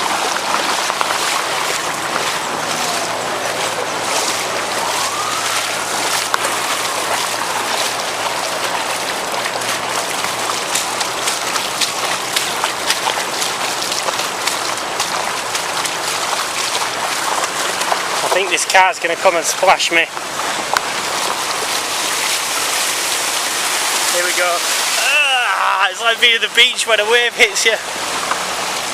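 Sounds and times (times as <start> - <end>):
floodwater rushing: 0.0 - 28.9
sharp splashes: 0.0 - 28.9.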